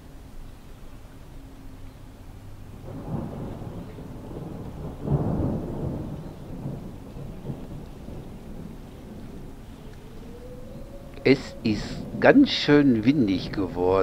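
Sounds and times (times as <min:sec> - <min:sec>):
gusty wind buffeting microphone: 0:02.0 - 0:14.0.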